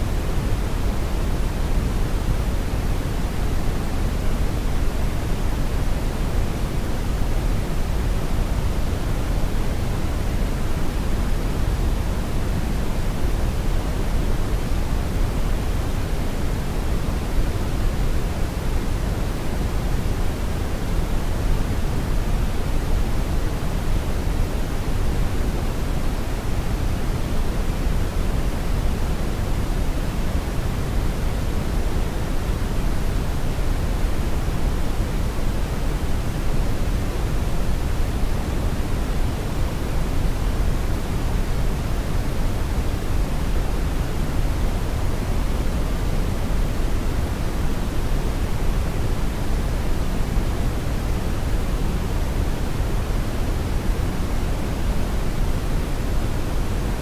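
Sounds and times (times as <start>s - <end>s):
brown noise rumble: 0.0s - 57.0s.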